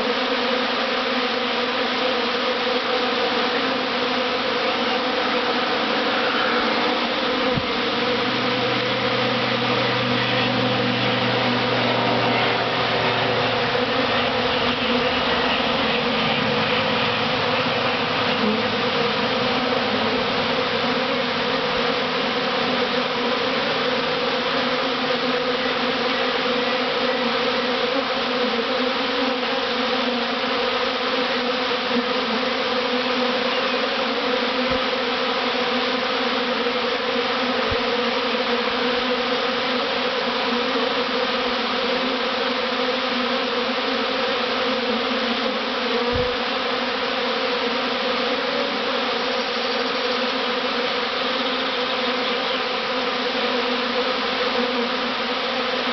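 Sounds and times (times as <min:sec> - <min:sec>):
bee swarm buzzing: 0:00.0 - 0:55.9.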